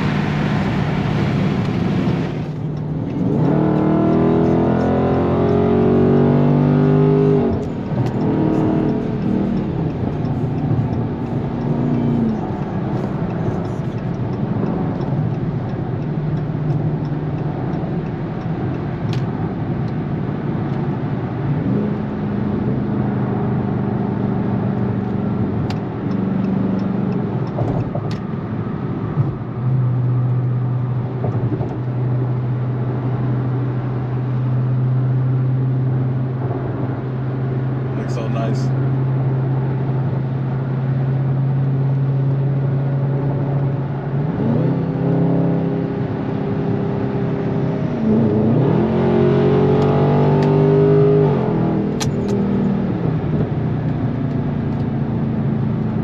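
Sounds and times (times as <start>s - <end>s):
exhaust drone: 0.0s - 56.0s
tyre and road noise: 0.0s - 56.0s.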